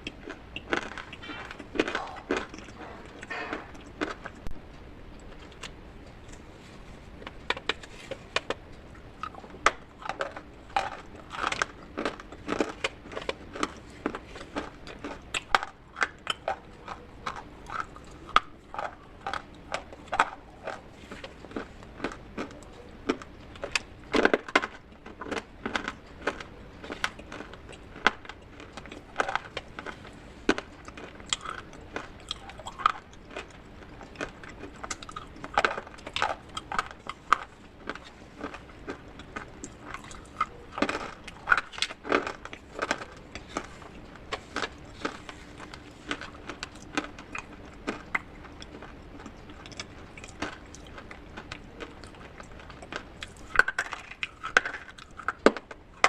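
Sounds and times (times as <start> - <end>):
dry clay crunching and cracking: 0.0 - 4.6, 5.2 - 56.0.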